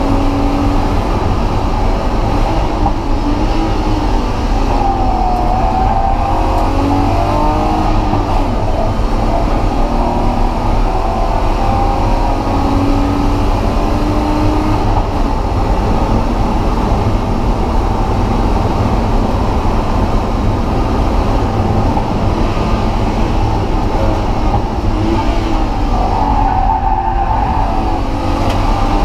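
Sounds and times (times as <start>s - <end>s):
car engine on track: 0.0s - 29.0s.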